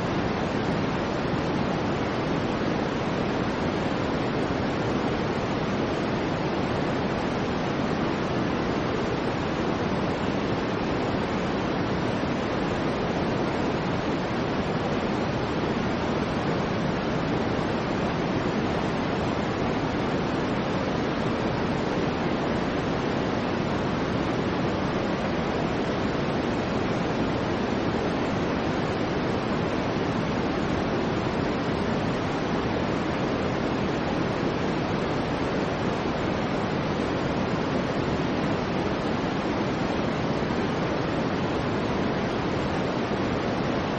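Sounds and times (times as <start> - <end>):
soft white noise hiss: 0.0 - 43.9.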